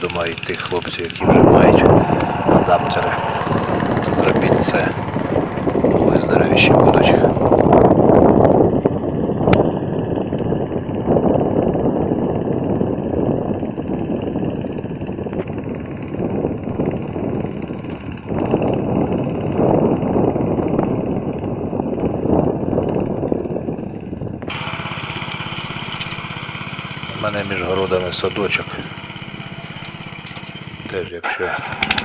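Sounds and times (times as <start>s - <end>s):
wind buffeting microphone: 0.0s - 31.1s
tractor engine running: 0.0s - 32.0s.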